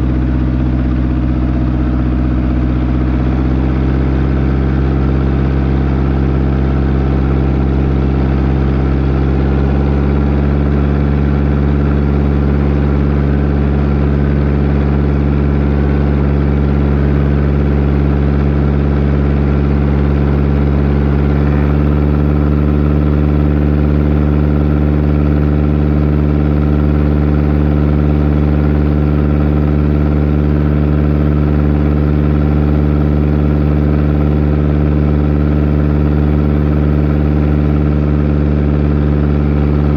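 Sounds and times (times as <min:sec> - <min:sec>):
seaplane engine droning: 0:00.0 - 0:39.9.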